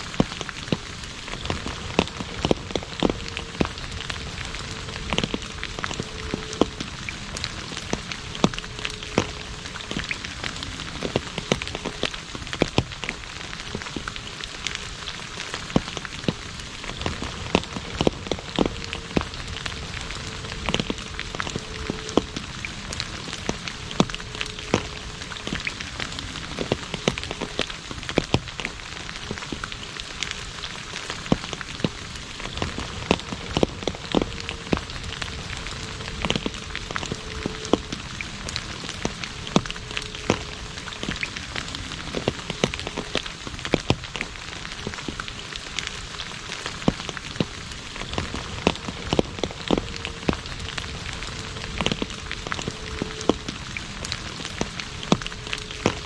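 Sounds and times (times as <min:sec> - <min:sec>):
rain hissing on asphalt: 0:00.0 - 0:56.0
raindrop splashes: 0:00.0 - 0:56.0.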